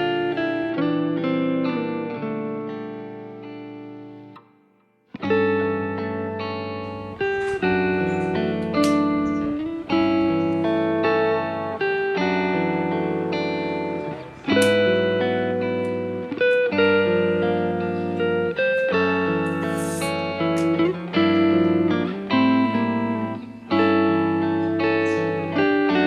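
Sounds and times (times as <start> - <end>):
guitar playing chords: 0.0 - 26.0.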